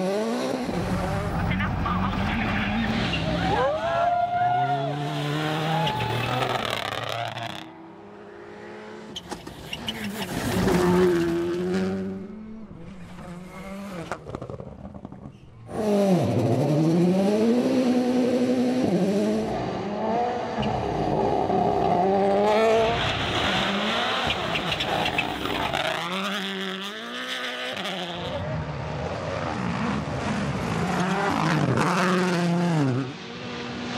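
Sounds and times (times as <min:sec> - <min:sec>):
rally car engines revving: 0:00.0 - 0:33.9.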